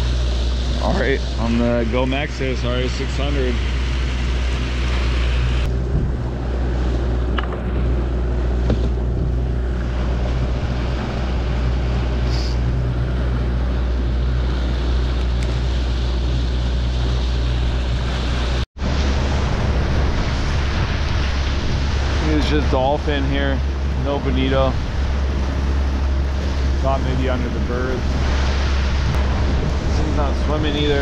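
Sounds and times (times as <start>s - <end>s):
outboard motor running: 0.0s - 31.0s
water rushing past hull: 0.0s - 31.0s
wind buffeting microphone: 0.0s - 31.0s.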